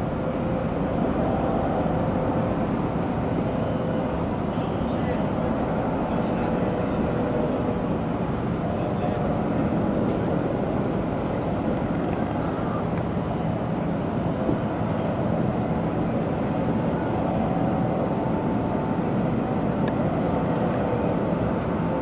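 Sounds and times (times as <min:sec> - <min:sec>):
distant aircraft engines droning: 0:00.0 - 0:22.0.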